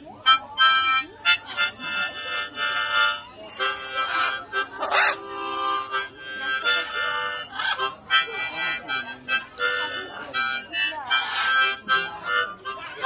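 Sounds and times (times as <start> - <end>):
harmonica playing: 0.0 - 13.0.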